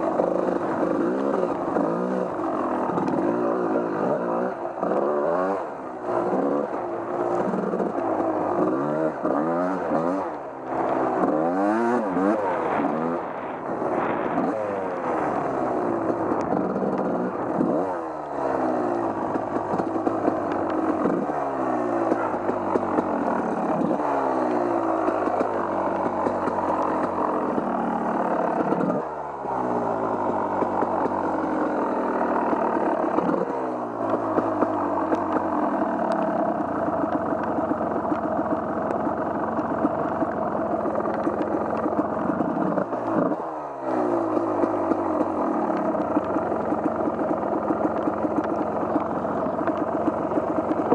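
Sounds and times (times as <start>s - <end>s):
off-road vehicle engine revving: 0.0s - 50.9s
vehicle rattling: 0.0s - 50.9s.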